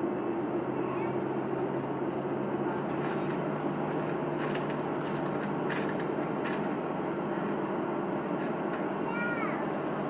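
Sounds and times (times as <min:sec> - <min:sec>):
airplane cabin hum: 0:00.0 - 0:10.0.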